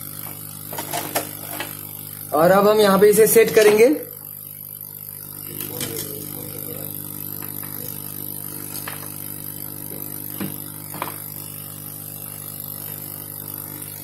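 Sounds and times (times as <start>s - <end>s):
hot-air blower humming: 0.0s - 14.0s.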